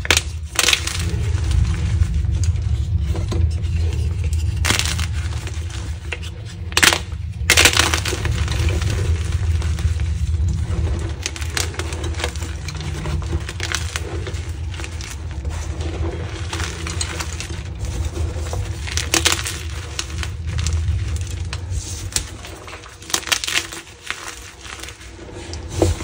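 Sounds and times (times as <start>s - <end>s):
chalk crunching and crumbling: 0.0s - 26.0s.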